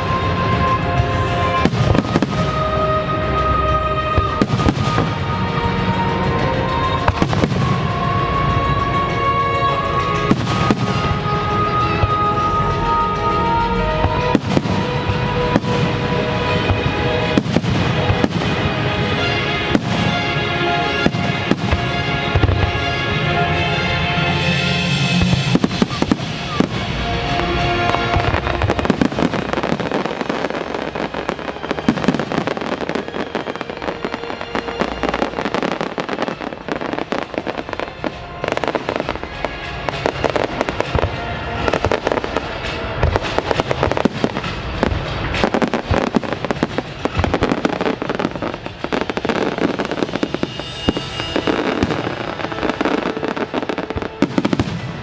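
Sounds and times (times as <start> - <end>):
fireworks bangs and crackles: 0.0 - 55.0
music: 0.0 - 55.0.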